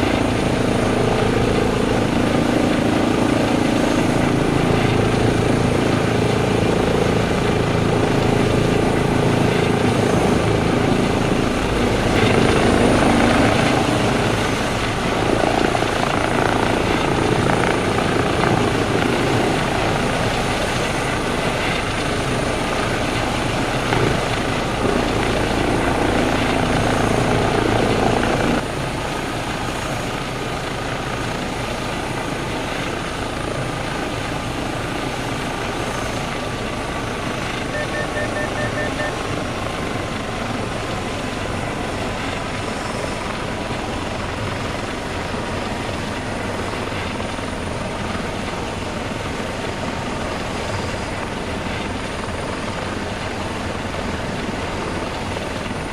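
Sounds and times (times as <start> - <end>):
helicopter turbine whine and rotor: 0.0 - 55.9.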